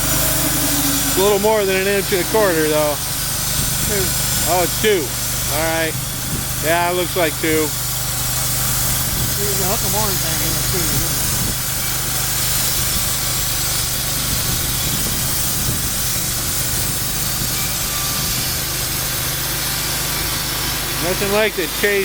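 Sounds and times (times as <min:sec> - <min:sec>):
saw blade hissing through wood: 0:00.0 - 0:22.0
sawmill engine humming: 0:00.0 - 0:22.0.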